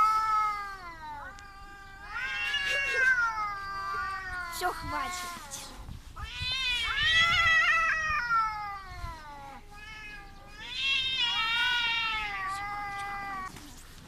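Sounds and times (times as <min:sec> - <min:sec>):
cats yowling: 0:00.0 - 0:13.7.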